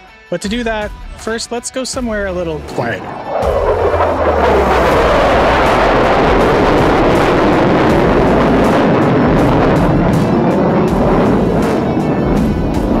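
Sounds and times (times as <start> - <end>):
fighter jets roaring overhead: 2.3 - 13.0.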